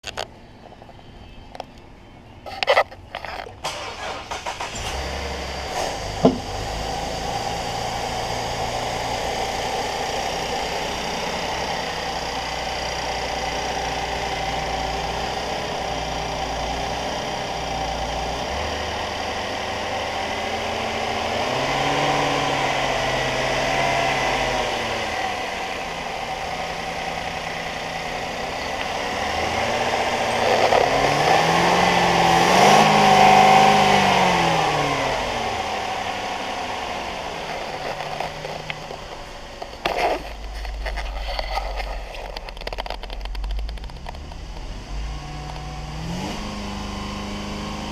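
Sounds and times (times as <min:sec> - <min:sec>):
car engine idling and revving: 0:00.0 - 0:47.9.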